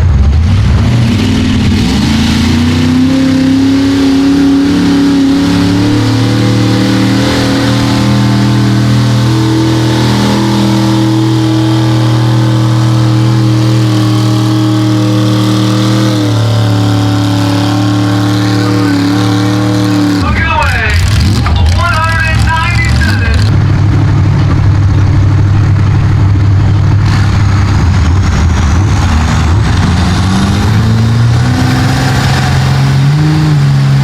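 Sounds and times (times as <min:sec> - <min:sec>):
truck engine at high revs: 0:00.0 - 0:34.0.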